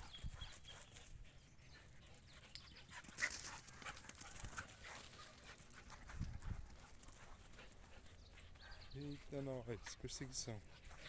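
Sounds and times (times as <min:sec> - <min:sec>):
dogs scuffling at play: 0:00.1 - 0:11.0.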